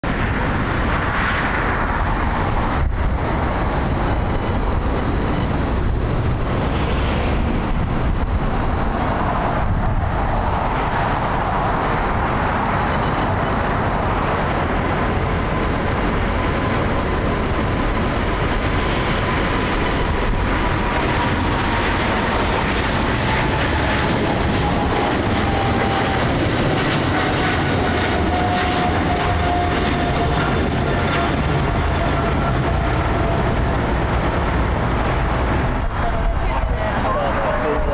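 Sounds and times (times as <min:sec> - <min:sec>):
jet engine roar: 0:00.0 - 0:37.9
jet engine whine falling in pitch: 0:00.0 - 0:37.9.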